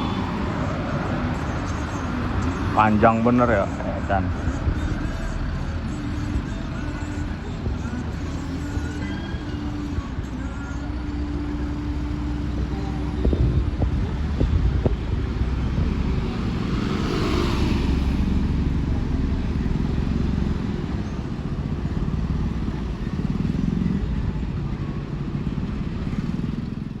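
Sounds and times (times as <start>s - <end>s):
heavy truck engine rumbling: 0.0s - 27.0s.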